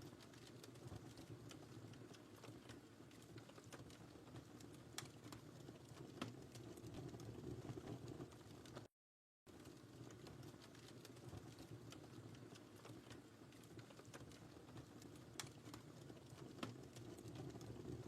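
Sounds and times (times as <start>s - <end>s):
fire crackling and popping: 0.0s - 8.9s, 9.5s - 18.0s
fire rumbling in fireplace: 0.0s - 8.9s, 9.5s - 18.0s.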